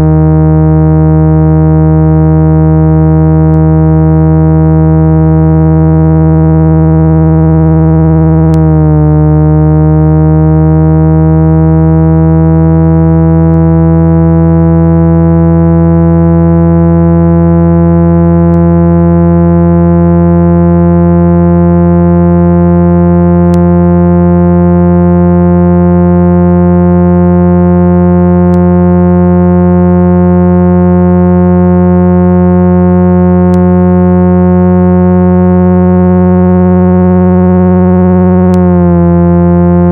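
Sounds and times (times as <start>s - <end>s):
loud synthesized low tone: 0.0s - 39.9s.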